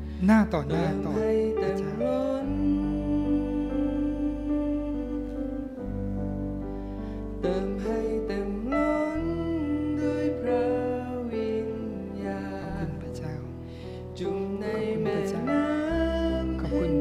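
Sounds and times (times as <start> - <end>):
keyboard chords: 0.0 - 17.0
man singing: 0.1 - 5.9, 7.4 - 17.0.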